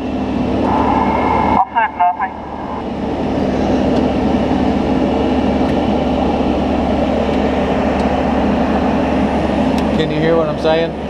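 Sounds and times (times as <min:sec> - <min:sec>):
truck engine and hydraulics running: 0:00.0 - 0:11.0.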